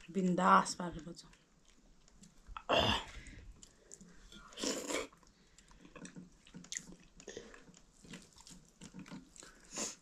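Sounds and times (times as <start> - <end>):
soft chewing: 0.8 - 10.0
wet eating sounds: 1.1 - 10.0.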